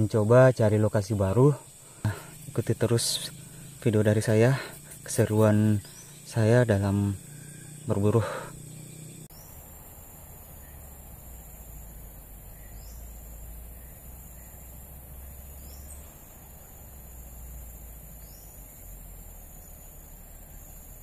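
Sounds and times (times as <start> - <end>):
insect drone: 0.0 - 21.0
faint bird calls: 1.7 - 21.0.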